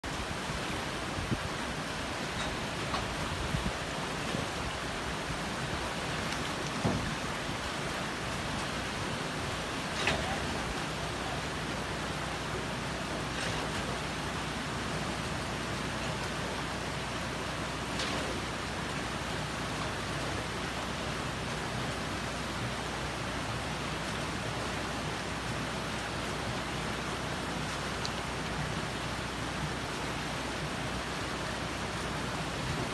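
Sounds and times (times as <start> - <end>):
river water rushing over gravel: 0.0 - 32.9
water splashes: 0.0 - 32.9.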